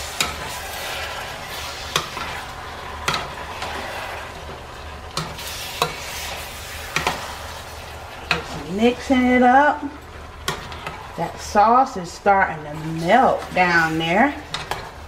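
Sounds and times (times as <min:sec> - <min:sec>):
low sizzle from pan: 0:00.0 - 0:15.0
spatula stirring pasta in pot: 0:00.0 - 0:15.0.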